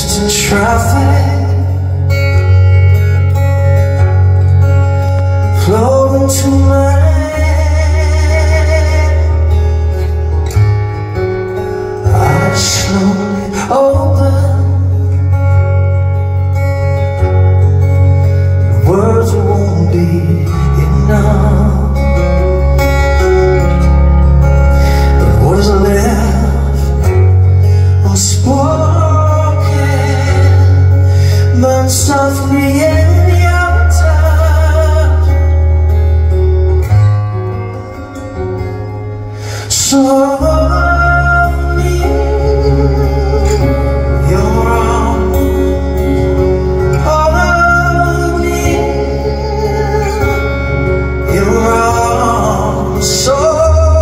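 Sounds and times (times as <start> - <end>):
man singing: 0.0 - 17.4, 18.4 - 36.7, 39.4 - 54.0
strummed acoustic guitar: 0.0 - 54.0.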